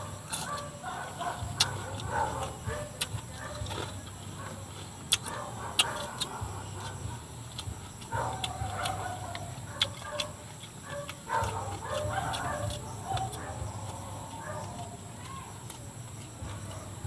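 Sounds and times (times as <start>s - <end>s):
person chewing with lip smacks: 1.3s - 16.8s.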